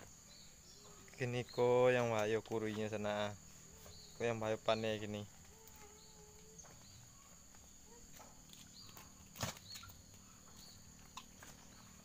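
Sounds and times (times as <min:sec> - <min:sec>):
faint bird chirps: 0:00.0 - 0:12.0
high insect drone: 0:00.0 - 0:12.0.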